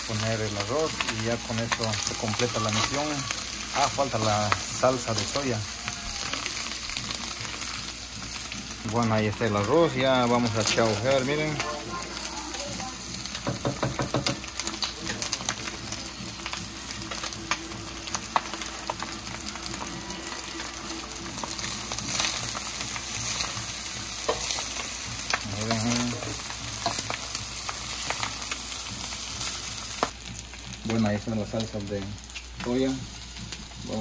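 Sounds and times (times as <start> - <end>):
rice sizzling in a wok: 0.0 - 34.0.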